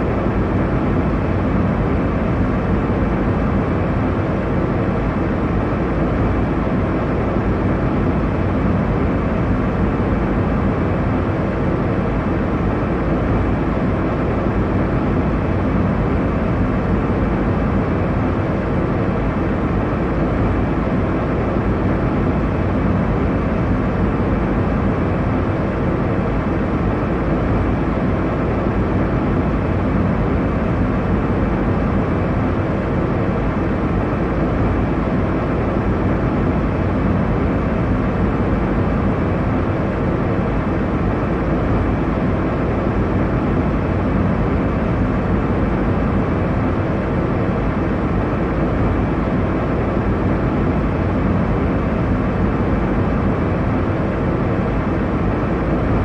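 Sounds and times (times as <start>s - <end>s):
airliner cabin engine and airflow noise: 0.0s - 56.0s.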